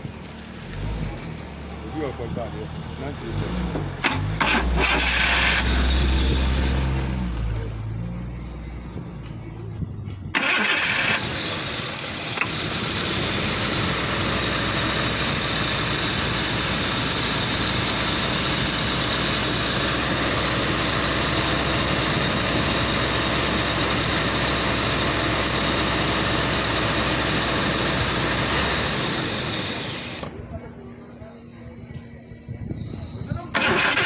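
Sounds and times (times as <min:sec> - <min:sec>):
car engine idling: 0:01.5 - 0:32.5.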